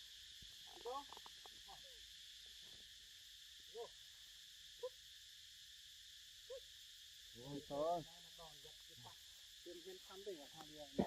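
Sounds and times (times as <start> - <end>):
faint insect drone: 0.0 - 11.0.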